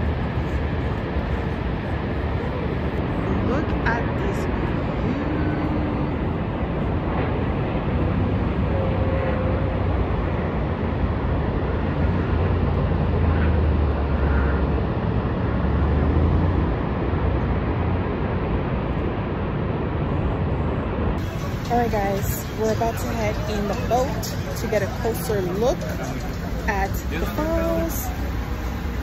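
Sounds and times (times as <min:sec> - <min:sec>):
waterfall roaring: 0:00.0 - 0:20.0, 0:20.8 - 0:29.0.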